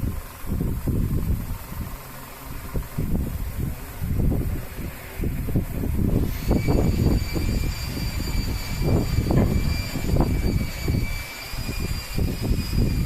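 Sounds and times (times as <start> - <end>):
fan air buffeting microphone: 0.0 - 13.0
motor whine: 0.0 - 13.0.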